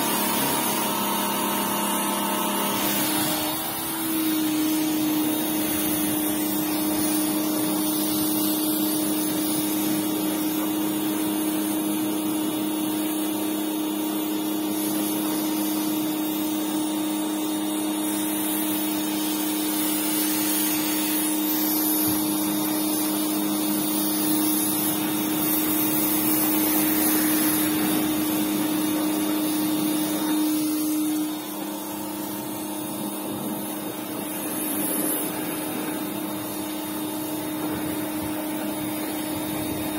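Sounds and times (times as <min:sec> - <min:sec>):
pressure washer motor humming: 0:00.0 - 0:39.9
water jet hissing: 0:00.0 - 0:39.9.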